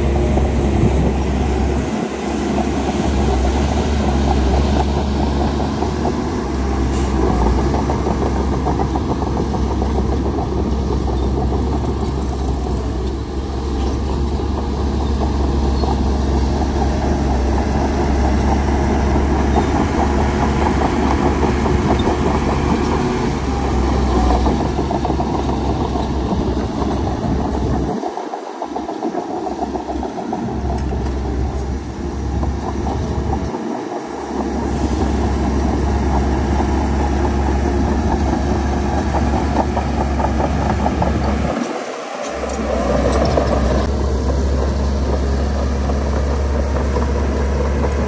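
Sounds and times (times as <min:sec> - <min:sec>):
heavy machinery rumbling: 0:00.0 - 0:48.0.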